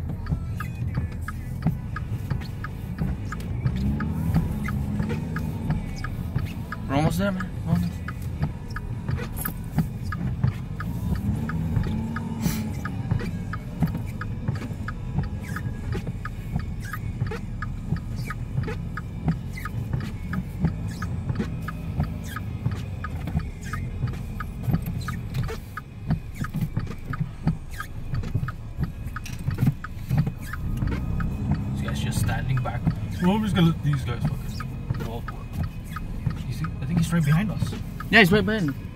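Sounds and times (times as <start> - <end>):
car engine running: 0.0 - 38.9
sharp clicks: 0.0 - 38.9
steady relay ticking: 0.0 - 38.9.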